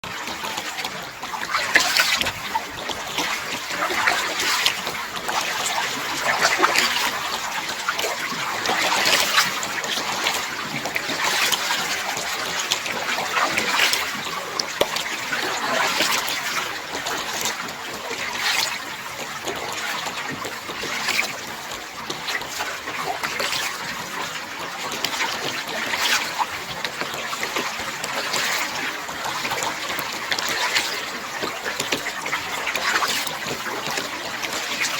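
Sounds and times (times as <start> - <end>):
kayak paddle splashing: 0.0 - 34.9.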